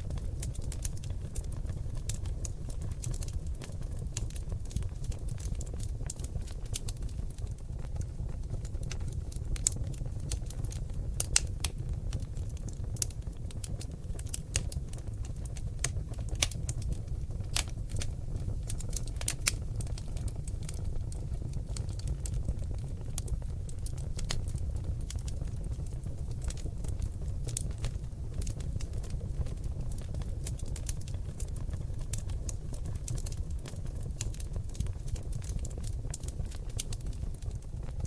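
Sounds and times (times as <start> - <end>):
logs crackling and popping: 0.0 - 38.0
low rumble of flames: 0.0 - 38.0.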